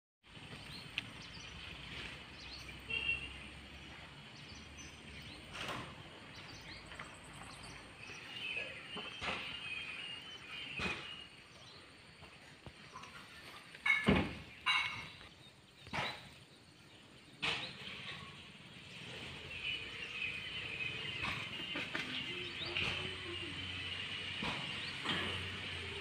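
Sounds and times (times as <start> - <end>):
small birds chirping: 0.2 - 26.0.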